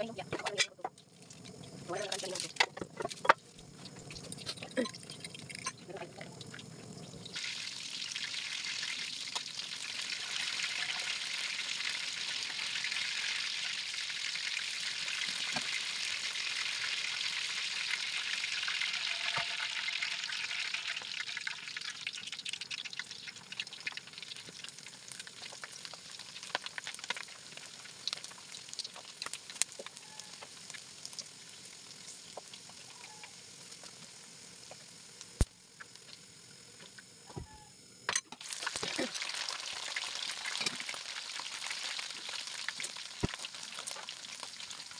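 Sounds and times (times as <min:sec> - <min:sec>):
hot oil sizzling in a wok: 0:00.0 - 0:37.6, 0:38.4 - 0:44.9.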